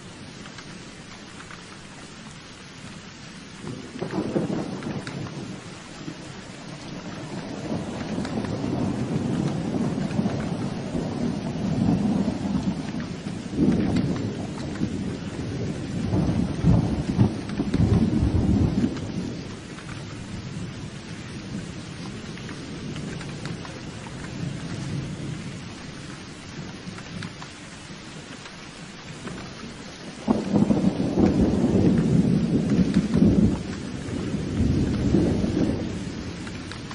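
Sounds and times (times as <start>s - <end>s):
steady rain: 0.0s - 36.9s
rolling thunder: 3.5s - 36.9s.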